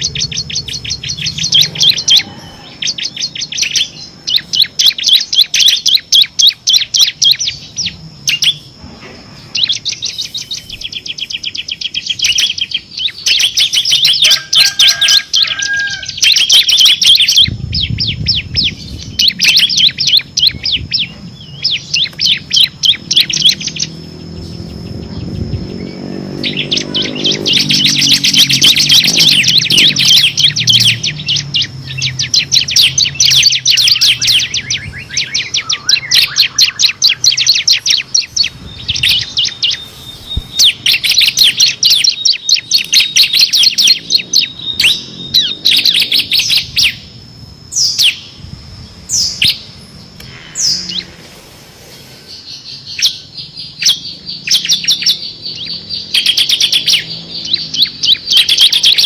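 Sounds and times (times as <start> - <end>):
bird rapid high trills: 0.0 - 59.0
sharp down-sweeping bird notes: 0.0 - 59.0.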